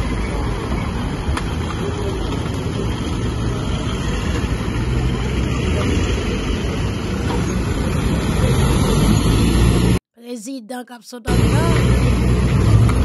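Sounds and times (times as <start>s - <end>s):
trucks driving past: 0.0s - 10.0s, 11.3s - 13.0s.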